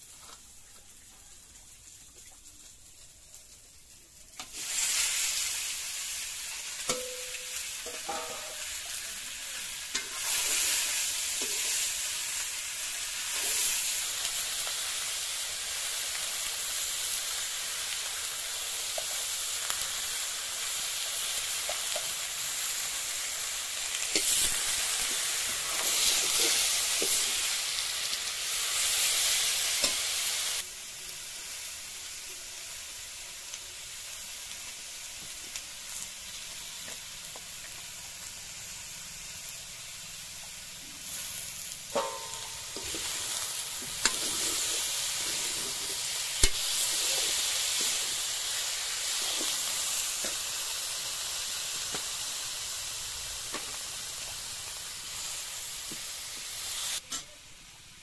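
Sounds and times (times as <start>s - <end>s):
chicken and potato sizzling: 0.0s - 58.0s.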